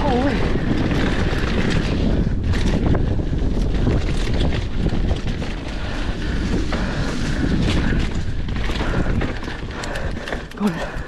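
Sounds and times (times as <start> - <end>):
bike clicks and clatters: 0.0 - 11.0
tyres rumbling over dirt and rock: 0.0 - 11.0
wind buffeting microphone: 0.0 - 11.0.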